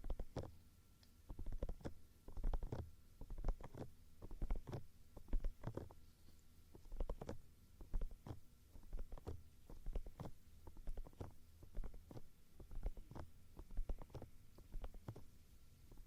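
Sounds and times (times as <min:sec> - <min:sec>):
ear-cleaning tools scratching and tapping: 0:00.0 - 0:00.5, 0:01.3 - 0:06.0, 0:06.8 - 0:15.3.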